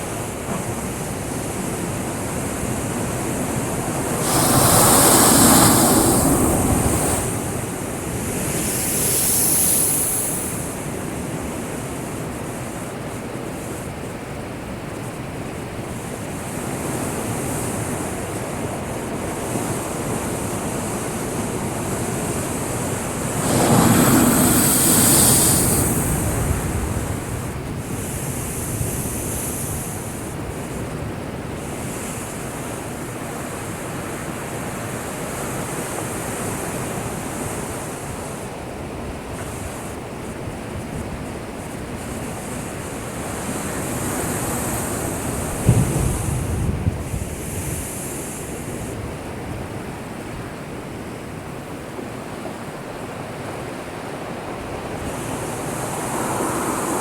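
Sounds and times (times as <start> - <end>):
waves crashing against breakwater: 0.0 - 12.9, 15.5 - 57.0
surf washing: 0.0 - 57.0.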